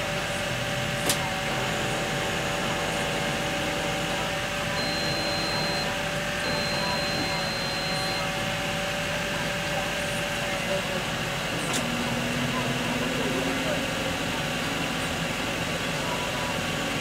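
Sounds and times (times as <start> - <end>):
electric roof motor whine: 0.0 - 17.0.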